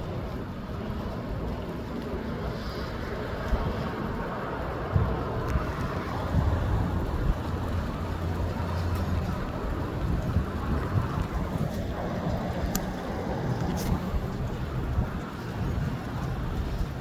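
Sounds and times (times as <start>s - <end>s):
gusty wind buffeting microphone: 0.0s - 17.0s.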